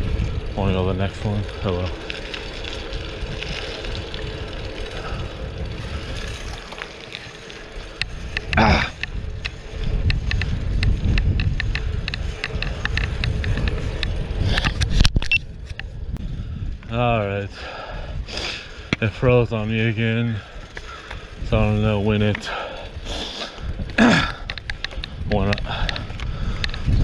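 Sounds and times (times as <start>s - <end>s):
wind on camera microphone: 0.0s - 6.8s, 7.7s - 27.0s
tyres rumbling over pavement: 0.0s - 16.2s, 16.8s - 27.0s
bicycle clicks and knocks: 0.0s - 17.0s, 18.7s - 27.0s.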